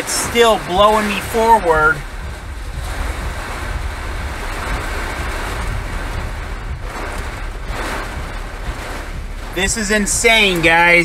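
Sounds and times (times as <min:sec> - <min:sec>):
torrential rain pounding a car: 0:00.0 - 0:11.0
wind buffeting car body: 0:00.0 - 0:11.0.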